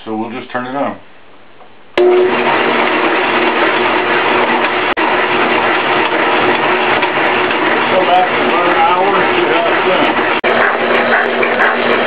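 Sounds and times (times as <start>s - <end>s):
electric clay mixer humming: 2.0s - 12.0s.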